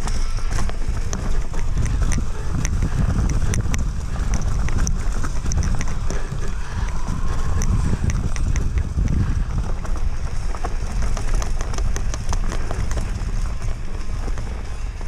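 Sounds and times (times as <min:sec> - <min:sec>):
bike clicks and rattles: 0:00.0 - 0:15.0
wind and tyre rumble: 0:00.0 - 0:15.0.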